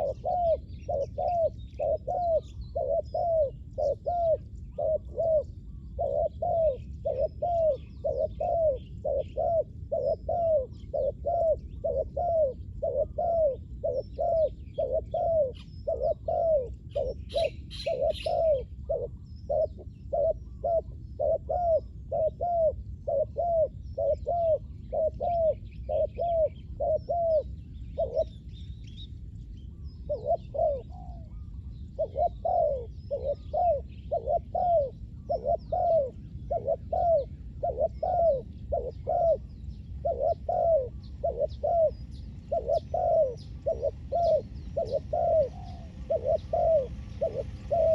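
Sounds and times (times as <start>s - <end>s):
dove cooing: 0.0s - 29.0s, 29.7s - 47.9s
small birds chirping: 0.0s - 47.9s.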